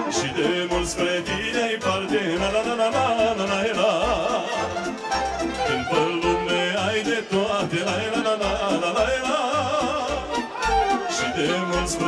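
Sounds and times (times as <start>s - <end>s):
folk party band music: 0.0s - 12.0s.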